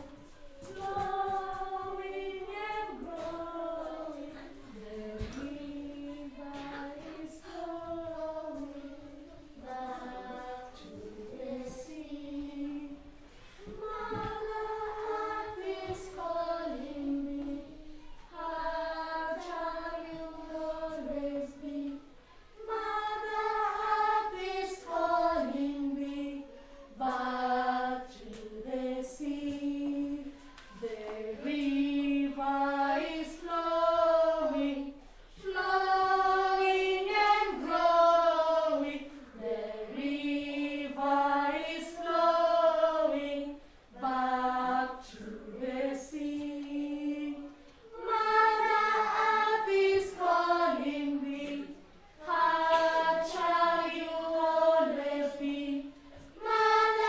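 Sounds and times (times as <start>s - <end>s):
children singing together: 0.0s - 57.0s.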